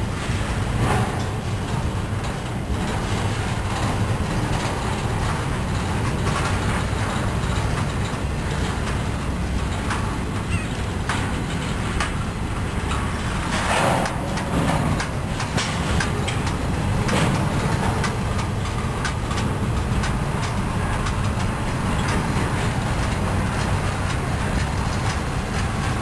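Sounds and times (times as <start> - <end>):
steel wheels rumbling on rail: 0.0 - 26.0.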